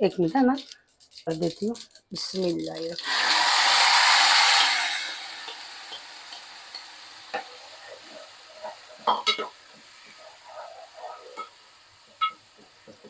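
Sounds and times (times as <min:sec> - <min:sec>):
prawns sizzling in hot oil: 0:00.1 - 0:13.0.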